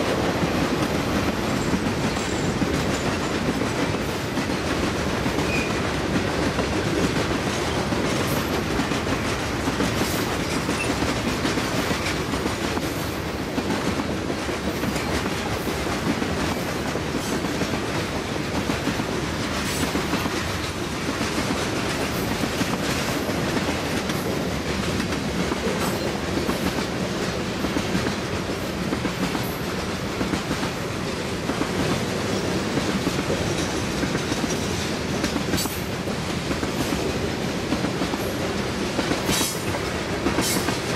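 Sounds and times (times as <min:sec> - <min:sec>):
train rumble: 0:00.0 - 0:40.9
train wheels clattering on rails: 0:00.0 - 0:40.9.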